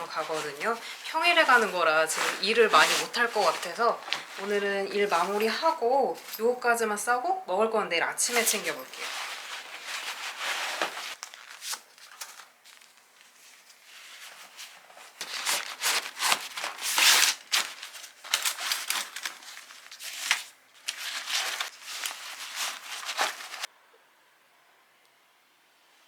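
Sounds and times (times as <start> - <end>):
nylon fabric rustling and crinkling: 0.0 - 7.1, 8.1 - 23.7.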